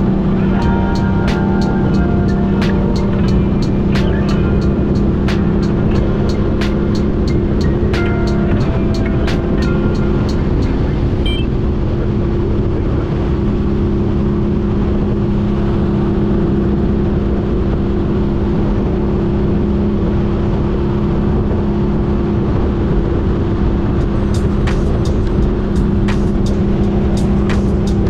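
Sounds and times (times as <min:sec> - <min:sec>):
motorcycle engine cruising: 0:00.0 - 0:28.0
wind rush on microphone: 0:00.0 - 0:28.0.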